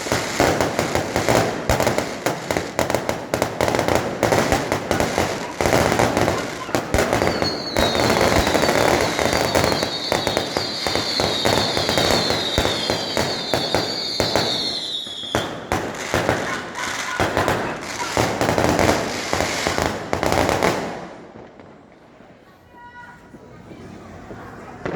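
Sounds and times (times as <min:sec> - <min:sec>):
fireworks banging and crackling: 0:00.0 - 0:24.9.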